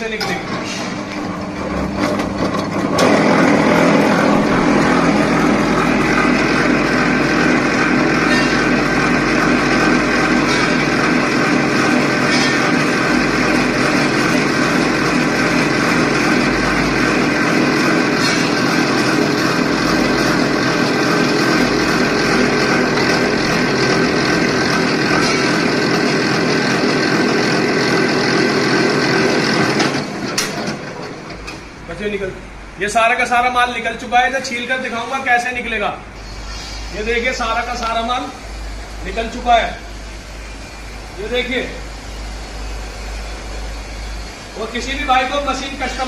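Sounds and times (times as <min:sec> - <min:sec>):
wire stripping machine humming: 0:00.0 - 0:32.8, 0:36.0 - 0:46.0.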